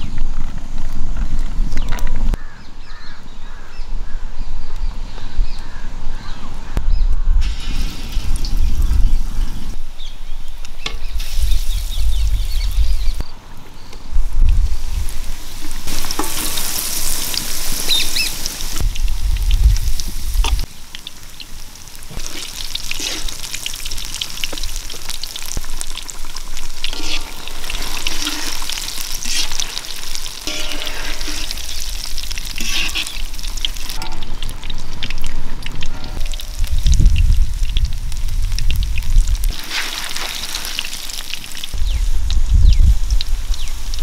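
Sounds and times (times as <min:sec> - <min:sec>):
food deep-frying in hot oil: 0:07.4 - 0:13.3, 0:14.2 - 0:44.0.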